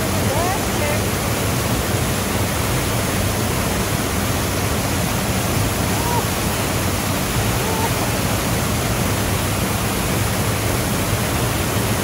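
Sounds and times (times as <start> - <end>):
water rushing over a weir: 0.0 - 12.0.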